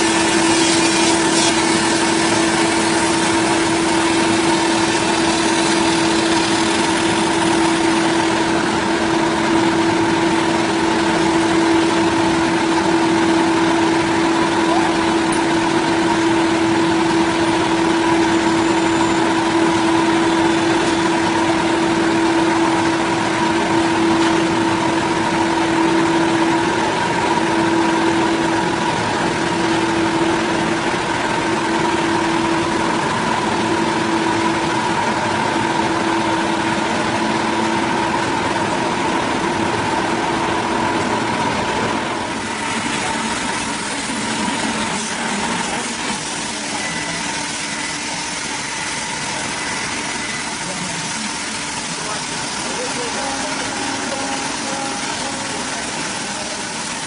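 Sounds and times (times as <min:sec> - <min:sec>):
power saw cutting wood: 0:00.0 - 0:37.2, 0:41.8 - 0:57.0.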